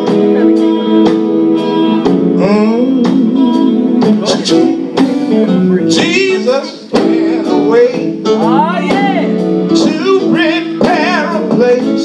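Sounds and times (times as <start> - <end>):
drum hits: 0.0 - 12.0
electric guitar: 0.0 - 12.0
keyboard chords: 0.0 - 12.0.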